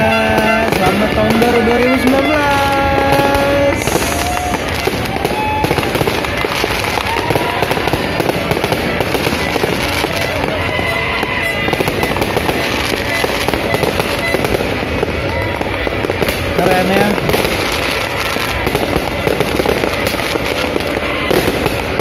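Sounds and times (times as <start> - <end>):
fireworks crackling and popping: 0.0 - 22.0.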